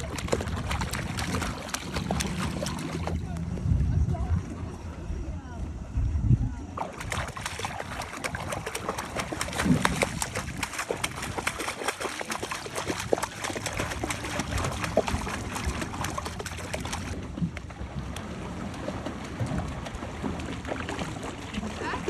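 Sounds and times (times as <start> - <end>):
water splashing and trickling: 0.0 - 5.2, 6.6 - 22.0.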